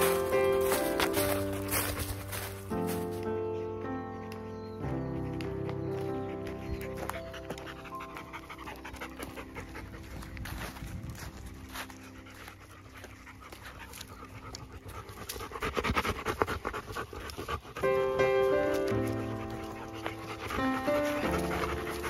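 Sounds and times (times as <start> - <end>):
dog panting: 0.0 - 3.0, 5.0 - 22.0.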